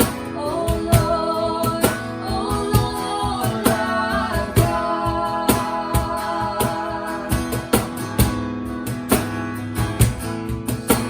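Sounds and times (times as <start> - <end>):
steady drum beat: 0.0 - 11.0
strummed guitar chords: 0.0 - 11.0.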